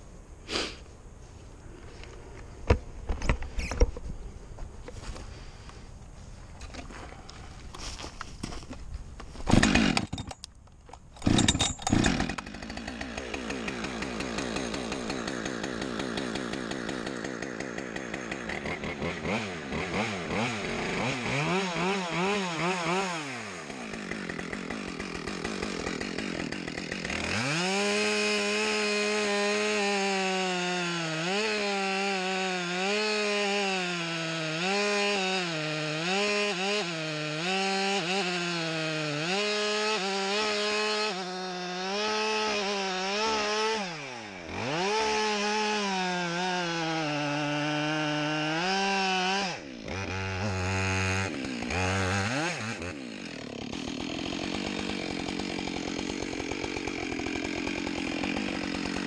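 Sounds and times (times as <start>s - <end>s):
chainsaw revving and cutting: 9.5s - 10.2s, 11.2s - 59.0s.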